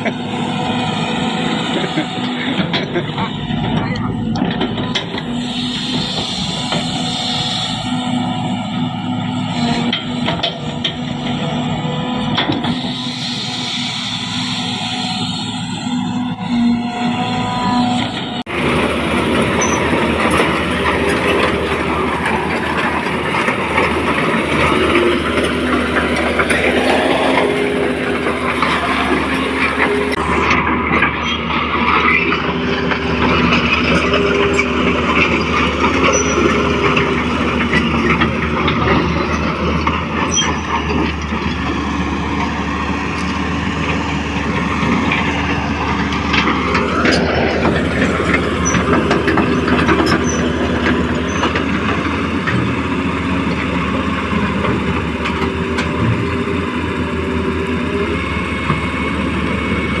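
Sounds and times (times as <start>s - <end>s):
model excavator motors running: 0.0s - 60.0s.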